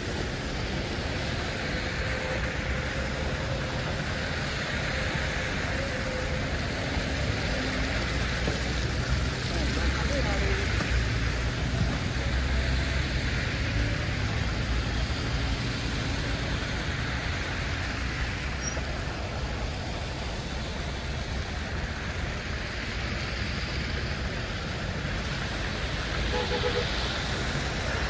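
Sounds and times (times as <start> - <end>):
low rumble of passing vehicles: 0.0 - 28.0.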